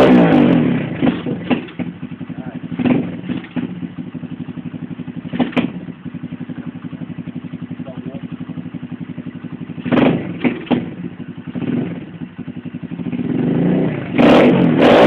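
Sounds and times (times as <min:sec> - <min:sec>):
motorbike engine revving and idling: 0:00.0 - 0:15.0.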